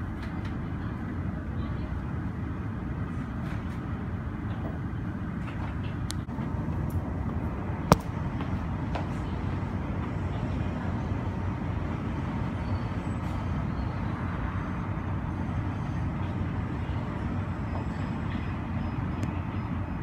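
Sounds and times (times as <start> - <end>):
low rumble of airport apron: 0.0 - 20.0.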